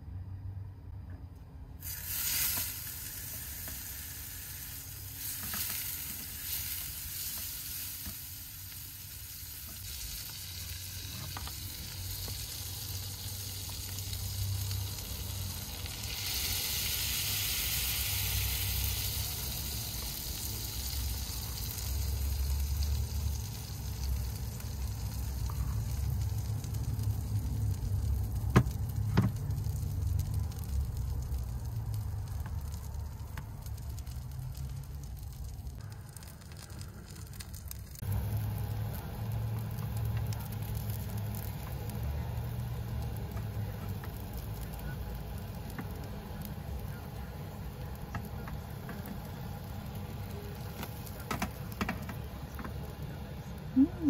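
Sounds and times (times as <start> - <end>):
batter sizzling in frying pan: 1.8 - 54.0
steady low hum: 3.3 - 54.0.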